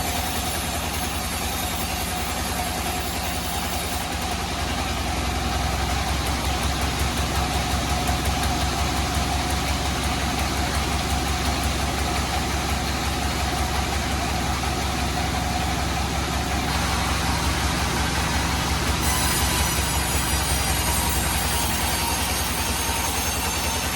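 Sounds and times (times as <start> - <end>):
bandsaw running: 0.0 - 23.9.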